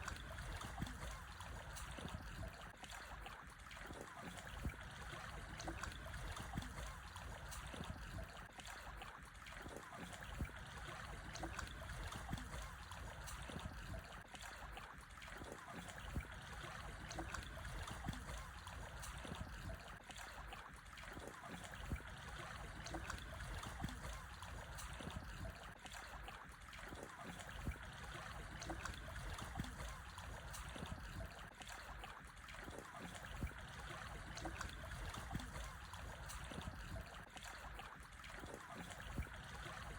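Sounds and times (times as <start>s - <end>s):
small sea waves lapping over stones: 0.0s - 39.9s.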